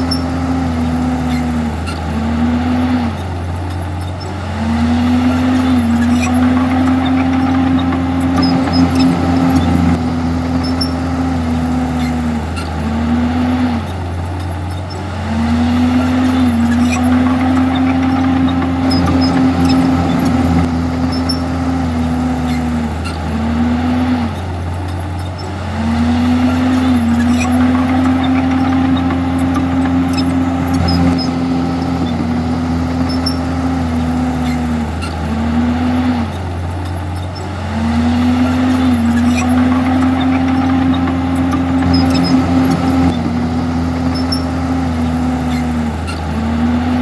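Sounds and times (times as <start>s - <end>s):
bulldozer diesel engine high revs: 0.0s - 47.0s.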